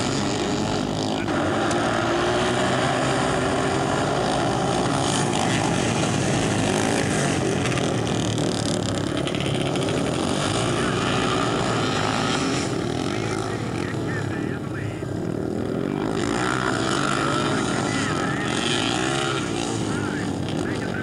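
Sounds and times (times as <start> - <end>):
racing motorcycles at high revs: 0.0 - 21.0.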